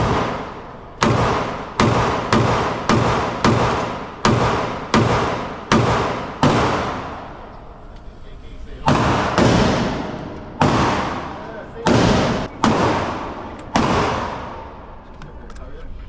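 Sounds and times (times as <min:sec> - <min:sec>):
gunshots with reverberant tail: 0:00.0 - 0:07.5, 0:08.8 - 0:15.0.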